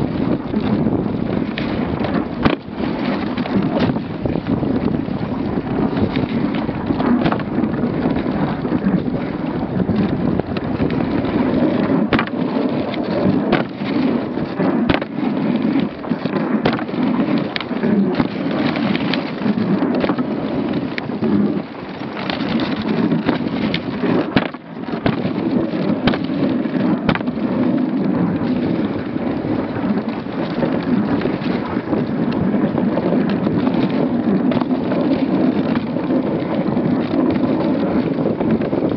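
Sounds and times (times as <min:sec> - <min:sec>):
sled knocks and rattles: 0:00.0 - 0:38.9
sled runners scraping over snow: 0:00.0 - 0:38.9.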